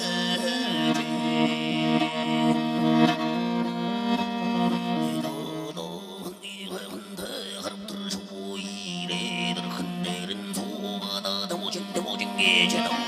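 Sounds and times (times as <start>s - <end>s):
bowed fiddle sustained notes: 0.0s - 13.0s.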